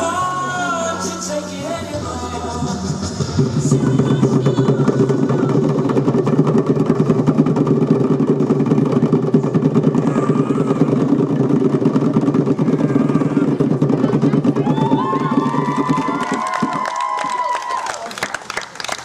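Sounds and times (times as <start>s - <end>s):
hand drum drumroll: 2.0s - 17.8s.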